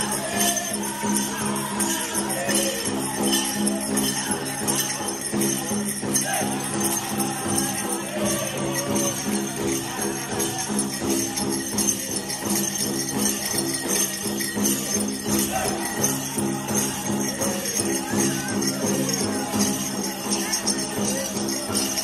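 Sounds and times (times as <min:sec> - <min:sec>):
group of singers: 0:00.0 - 0:22.0
jingling bells: 0:00.0 - 0:22.0.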